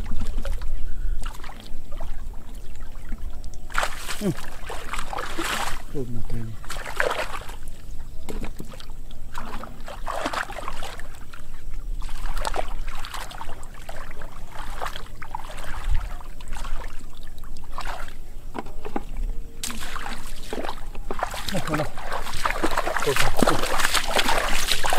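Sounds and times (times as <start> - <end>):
muddy water splashing: 0.0 - 24.9.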